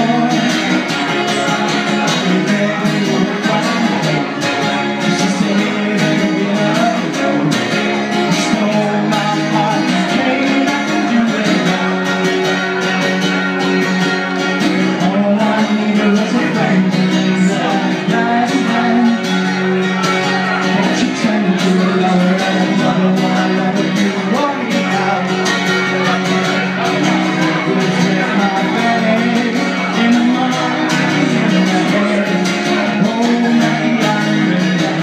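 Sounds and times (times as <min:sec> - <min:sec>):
acoustic guitar strumming: 0:00.0 - 0:35.0
man singing: 0:00.0 - 0:35.0.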